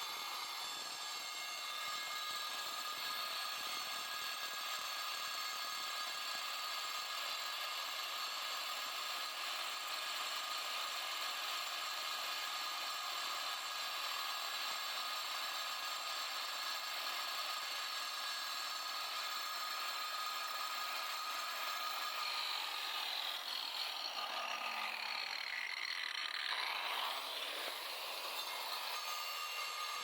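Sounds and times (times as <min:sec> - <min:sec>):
angle grinder cutting concrete: 0:00.0 - 0:30.0.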